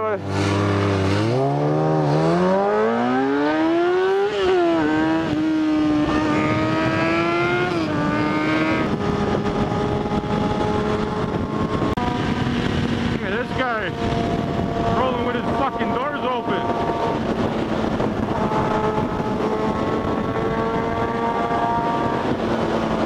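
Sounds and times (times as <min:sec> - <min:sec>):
motorcycle engine accelerating: 0:00.0 - 0:23.0
wind rush on microphone: 0:00.0 - 0:23.0.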